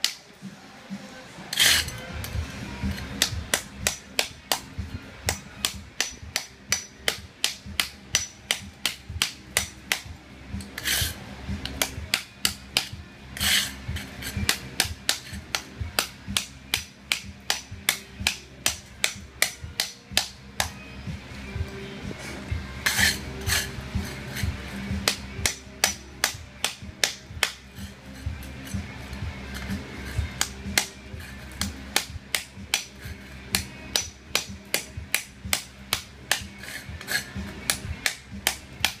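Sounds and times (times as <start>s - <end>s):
hammer chipping ceramic tile: 2.8s - 20.8s, 22.8s - 28.8s, 29.6s - 39.0s.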